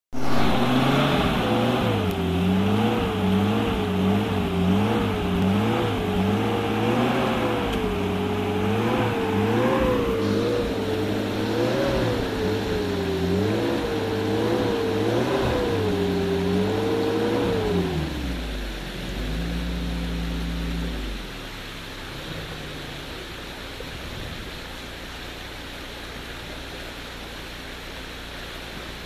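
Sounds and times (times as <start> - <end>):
off-road vehicle engine revving: 0.1 - 27.2.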